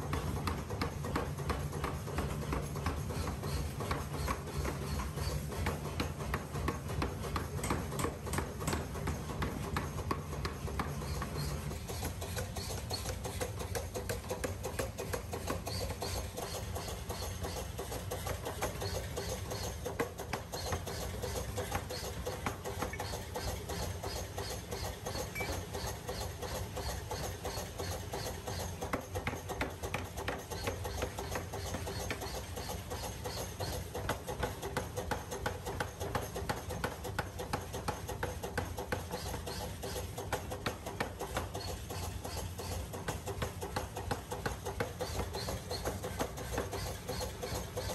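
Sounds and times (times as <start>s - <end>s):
power hammer pounding steel: 0.0s - 47.9s.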